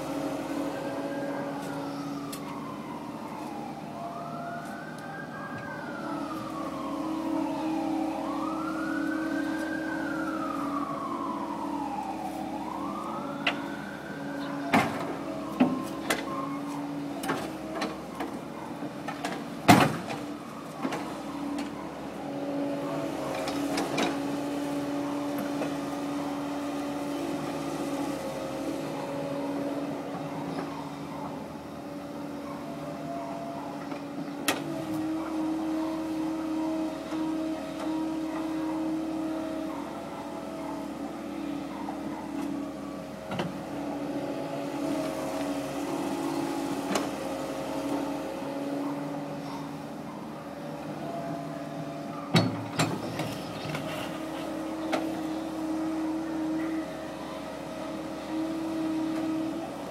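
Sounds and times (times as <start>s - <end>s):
excavator engine and hydraulics: 0.0s - 59.9s
siren wailing: 0.0s - 59.9s.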